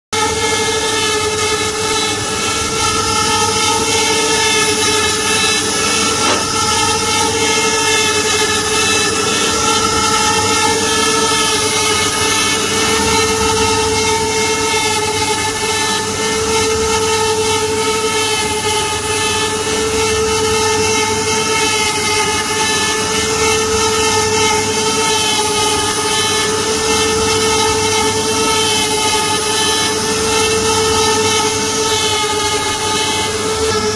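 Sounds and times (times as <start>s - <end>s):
router spindle motors whining: 0.2s - 33.9s.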